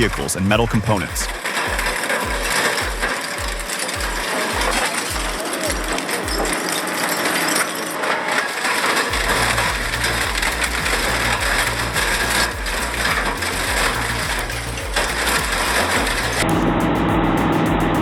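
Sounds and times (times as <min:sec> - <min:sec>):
shredder crushing scrap metal: 0:01.3 - 0:16.4.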